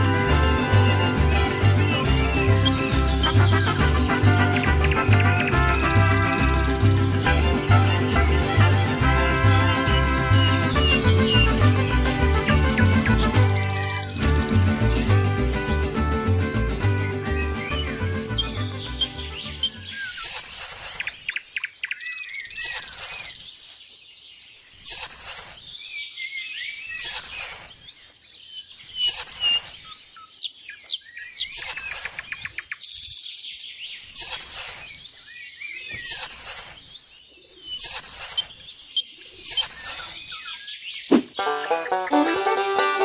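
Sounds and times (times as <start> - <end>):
birds twittering: 0.0 - 43.0.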